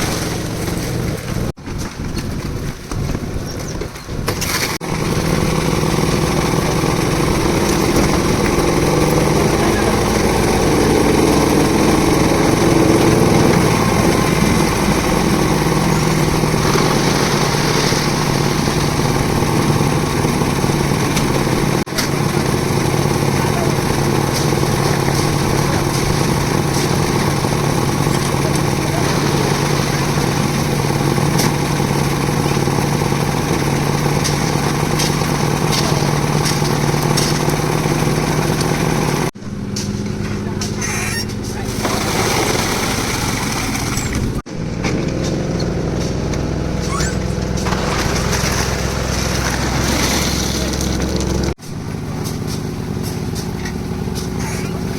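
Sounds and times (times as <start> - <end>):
concrete mixer engine humming: 0.0 - 54.9.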